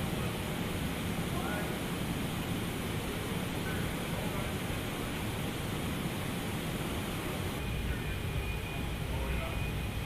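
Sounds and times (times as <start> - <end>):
rushing hissing factory noise: 0.0 - 10.0.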